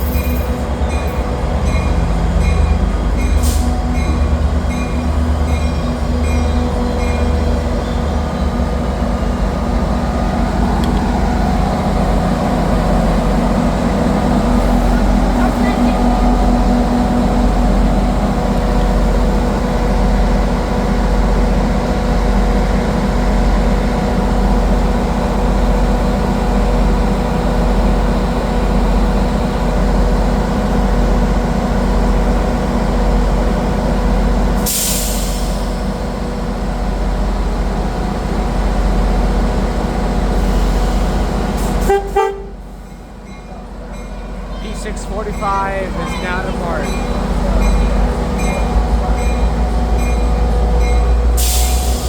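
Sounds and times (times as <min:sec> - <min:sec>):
diesel train engine idling: 0:00.0 - 0:52.0.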